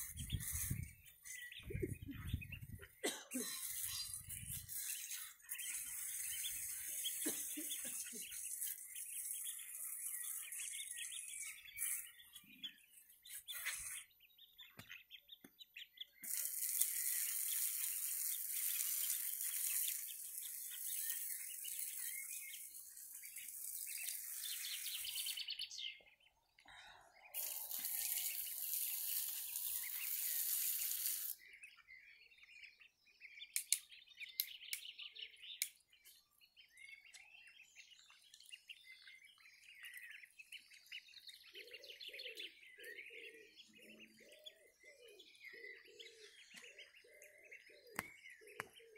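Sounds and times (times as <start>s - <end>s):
ducklings peeping: 0.0s - 26.2s, 27.3s - 34.9s, 36.5s - 48.9s.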